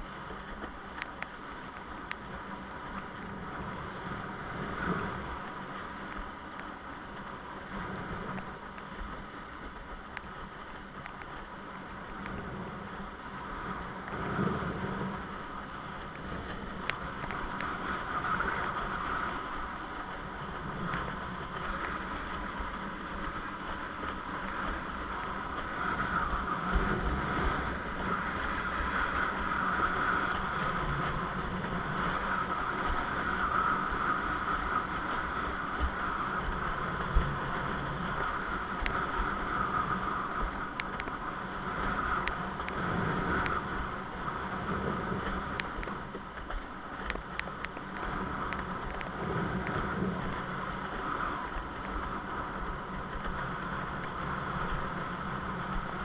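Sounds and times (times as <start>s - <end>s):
wind and water rushing: 0.0s - 56.0s.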